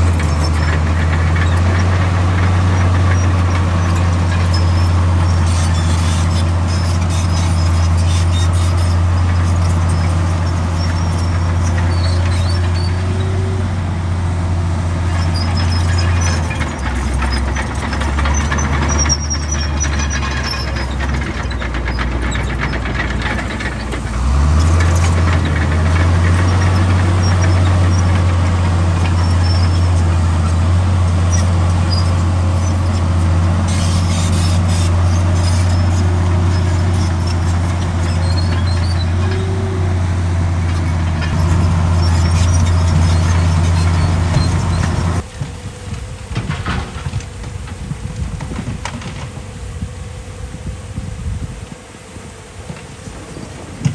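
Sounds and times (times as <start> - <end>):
faint high squeaks: 0.0 - 13.7, 15.0 - 45.8
heavy diesel machinery engine: 0.0 - 49.4.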